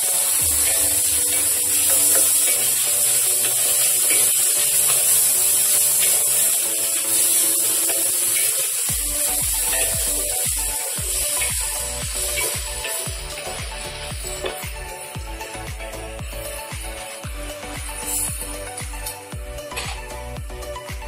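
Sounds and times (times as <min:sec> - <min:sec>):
background music: 0:00.0 - 0:21.0
food sizzling in a wok: 0:00.0 - 0:21.0.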